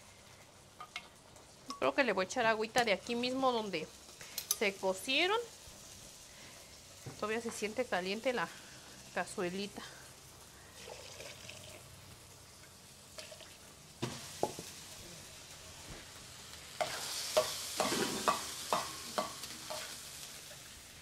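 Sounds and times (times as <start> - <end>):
meat sizzling on a hot pan: 0.0 - 21.0.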